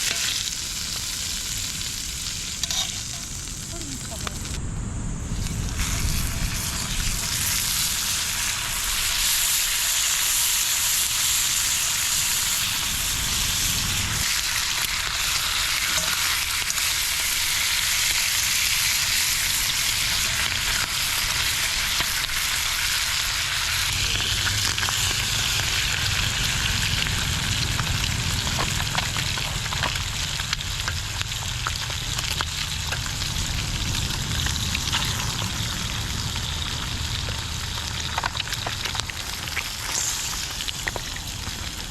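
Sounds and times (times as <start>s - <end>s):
food sizzling in a pan: 0.0s - 4.6s, 5.2s - 41.9s.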